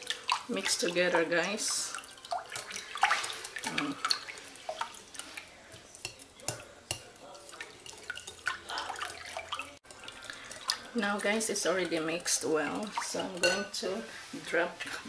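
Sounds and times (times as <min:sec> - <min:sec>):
liquid sloshing in a bowl: 0:00.0 - 0:15.0.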